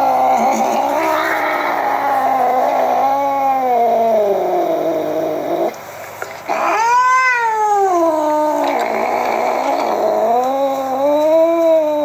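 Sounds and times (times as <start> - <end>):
cat yowling: 0.0 - 5.7, 6.5 - 12.0.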